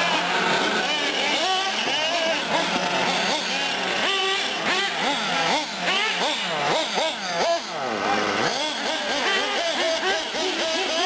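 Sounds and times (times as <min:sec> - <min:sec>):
rc car engines revving: 0:00.0 - 0:11.0.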